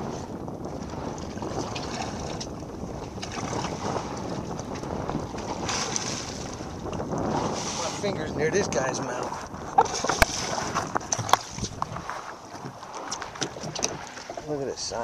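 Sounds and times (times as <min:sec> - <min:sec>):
choppy sea water washing: 0:00.0 - 0:15.0
wind buffeting microphone: 0:00.0 - 0:15.0.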